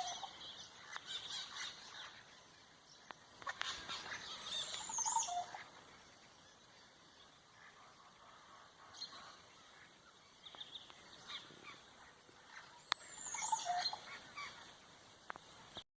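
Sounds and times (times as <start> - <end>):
birds calling: 0.0 - 15.8.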